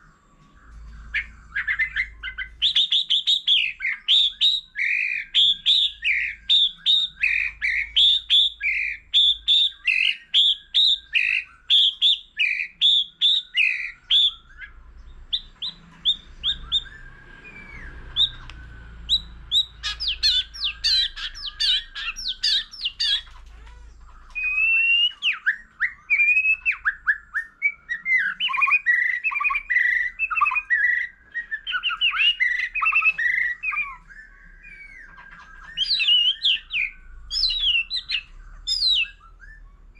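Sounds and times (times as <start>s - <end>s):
bird whistling and chattering: 0.6s - 39.9s.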